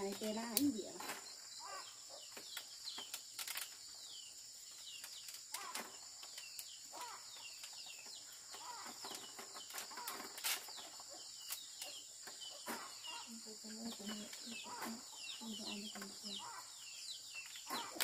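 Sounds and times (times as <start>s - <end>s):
high insect buzz: 0.0s - 18.0s.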